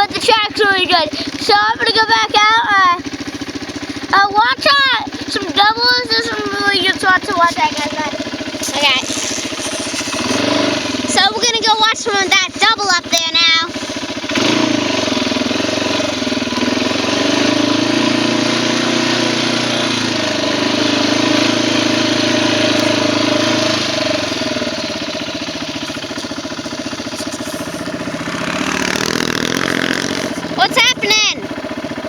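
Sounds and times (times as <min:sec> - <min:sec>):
quad engine running: 0:00.0 - 0:32.0.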